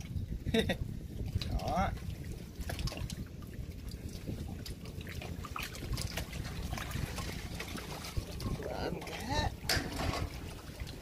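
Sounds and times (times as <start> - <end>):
choppy river water: 0.0 - 11.0
low rumble: 0.0 - 11.0
wind buffeting microphone: 0.0 - 11.0.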